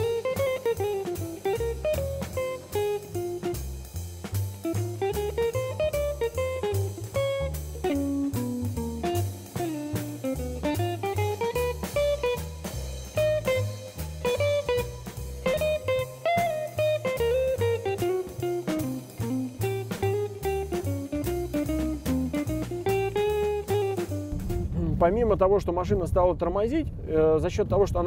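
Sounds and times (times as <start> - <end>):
background music with drum beat: 0.0 - 25.2.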